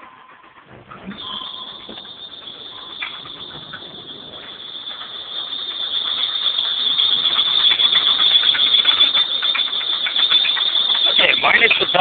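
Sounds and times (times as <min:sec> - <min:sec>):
engine running: 0:00.0 - 0:12.0
rapid ticking clatter: 0:00.0 - 0:12.0
high-pitched belt squeal: 0:00.7 - 0:12.0.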